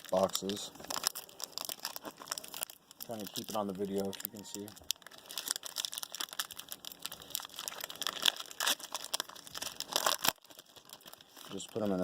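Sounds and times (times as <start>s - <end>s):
foil wrappers tearing and crinkling: 0.0s - 12.0s.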